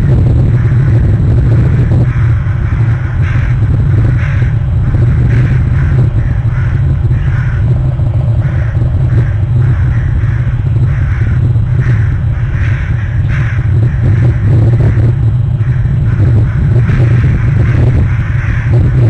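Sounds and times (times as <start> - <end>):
loud steady low rumble: 0.0 - 19.0
crows cawing: 0.4 - 19.0.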